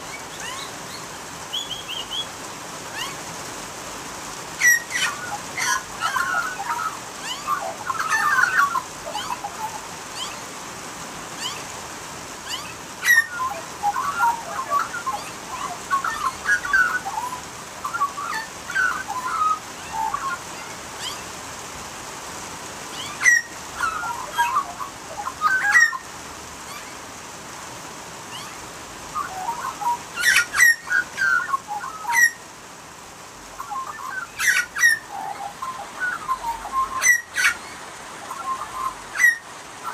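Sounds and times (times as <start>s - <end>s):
magpies carolling: 0.0s - 3.3s, 4.5s - 10.6s, 11.3s - 11.8s, 12.4s - 21.4s, 22.8s - 27.0s, 28.3s - 32.5s, 33.5s - 39.9s.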